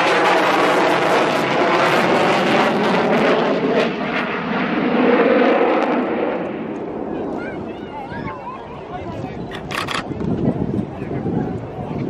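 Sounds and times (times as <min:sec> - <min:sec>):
aircraft engine flying past: 0:00.0 - 0:12.0.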